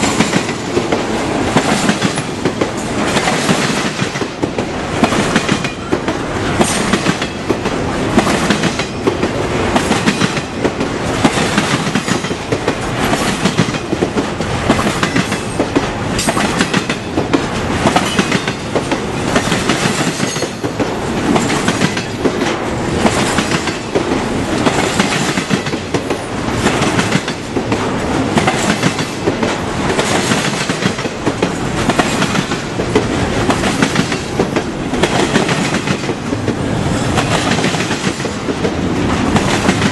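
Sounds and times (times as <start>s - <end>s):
train wheels rushing on rail: 0.0s - 39.9s
wheels clacking over rail joints: 0.0s - 39.9s.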